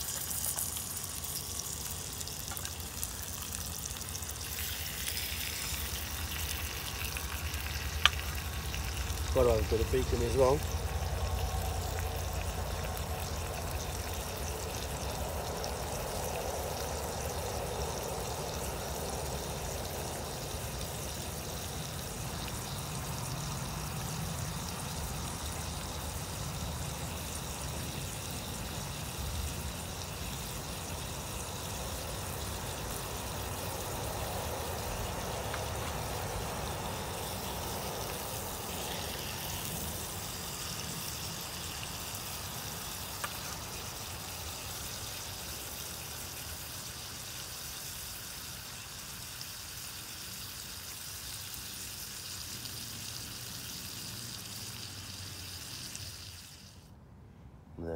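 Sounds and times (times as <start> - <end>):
bacon sizzling in frying pan: 0.0 - 56.9.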